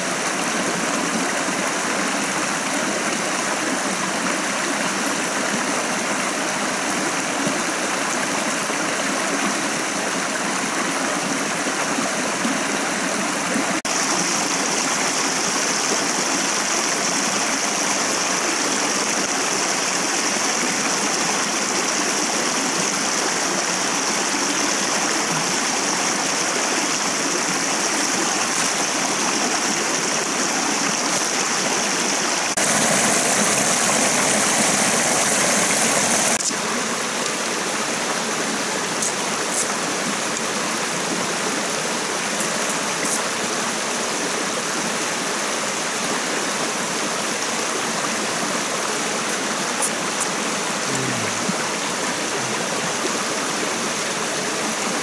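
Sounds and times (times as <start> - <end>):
stream rushing and babbling: 0.0 - 55.0.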